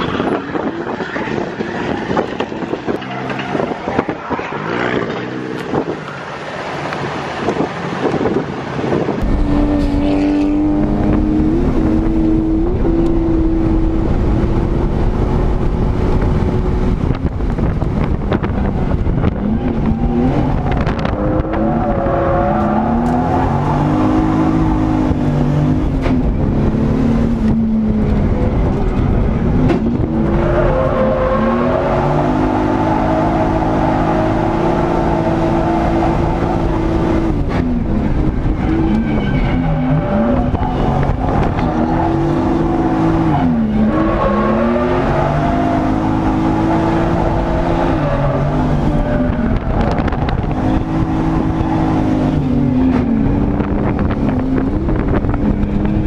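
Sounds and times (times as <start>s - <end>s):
car engine revving: 7.5s - 56.0s.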